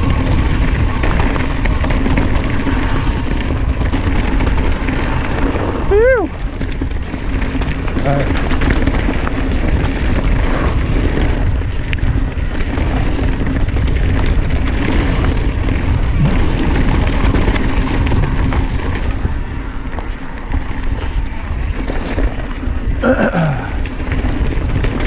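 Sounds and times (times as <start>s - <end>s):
bike tyres rolling over dirt: 0.0s - 25.0s
wind buffeting microphone: 0.0s - 25.0s.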